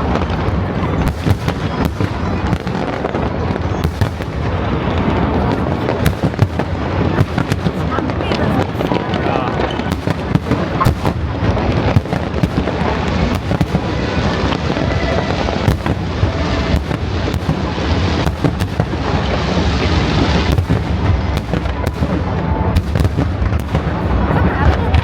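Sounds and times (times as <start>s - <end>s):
fireworks cracks and bangs: 0.0s - 25.0s.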